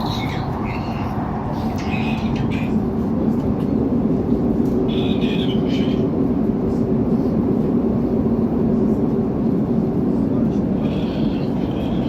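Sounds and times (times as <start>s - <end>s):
train running noise with hum: 0.0s - 12.0s.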